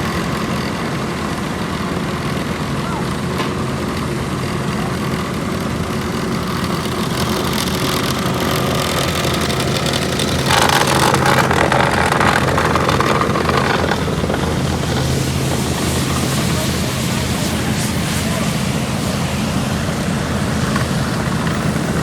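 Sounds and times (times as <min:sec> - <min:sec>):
loud rushing noise: 0:00.0 - 0:22.0
machinery engine humming: 0:00.0 - 0:22.0.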